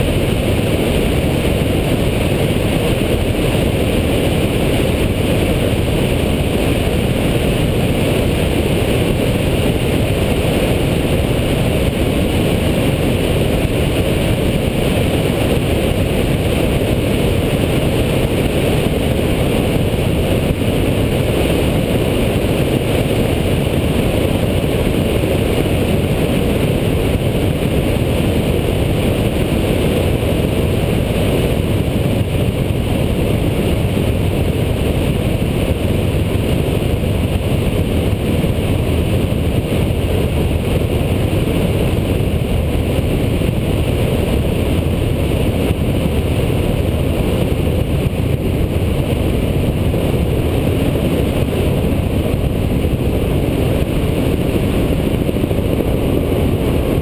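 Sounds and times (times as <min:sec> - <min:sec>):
aircraft engine noise: 0:00.0 - 0:57.0
wind roar: 0:00.0 - 0:57.0.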